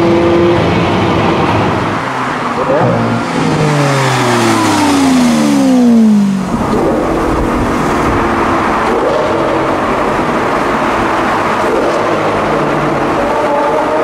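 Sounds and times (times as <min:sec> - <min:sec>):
car engine heard from cabin: 0:00.0 - 0:14.0
road and tyre noise: 0:00.0 - 0:14.0
sports car passing by: 0:00.0 - 0:14.0.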